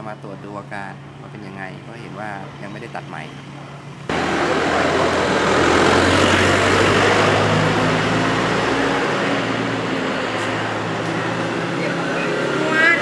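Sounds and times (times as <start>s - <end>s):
street traffic: 0.0s - 13.0s
low engine hum: 2.5s - 13.0s.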